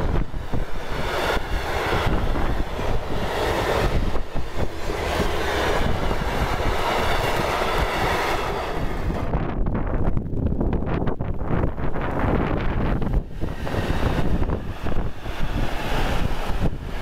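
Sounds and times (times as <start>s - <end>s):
freight train wheels rumbling: 0.0s - 17.0s
wind buffeting microphone: 0.0s - 17.0s.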